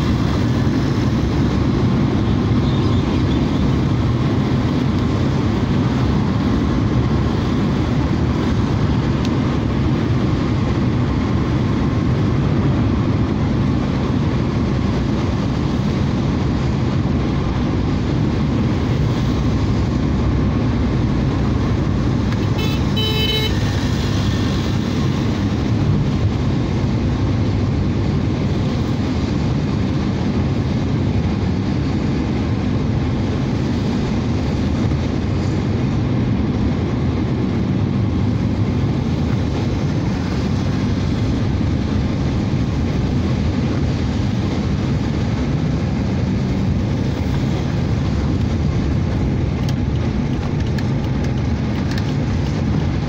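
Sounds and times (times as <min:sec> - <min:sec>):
car engine rumble: 0:00.0 - 0:53.0
tyres on wet road: 0:00.0 - 0:53.0.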